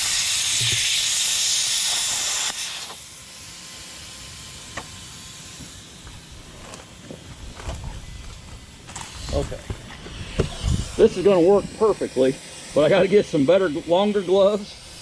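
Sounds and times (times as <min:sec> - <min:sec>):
plasma cutter hissing: 0:00.0 - 0:15.0.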